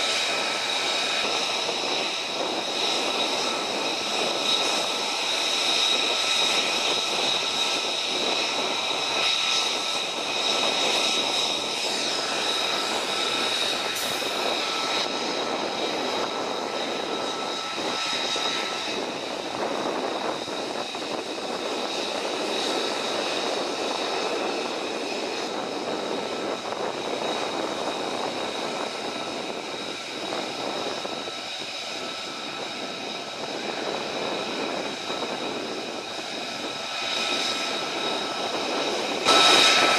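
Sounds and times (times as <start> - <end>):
high turbine whine: 0.0 - 39.9
jet engines roaring: 0.0 - 39.9.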